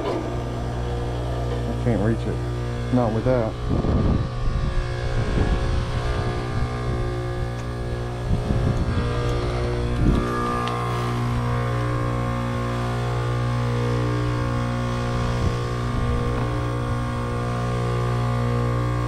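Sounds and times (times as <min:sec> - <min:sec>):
condenser unit humming: 0:00.0 - 0:19.0.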